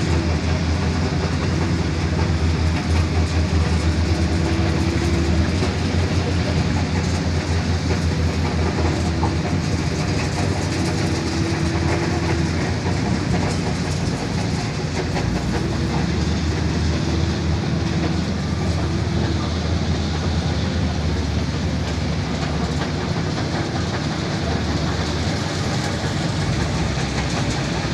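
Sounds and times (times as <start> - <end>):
diesel truck engine rumbling: 0.0 - 27.9.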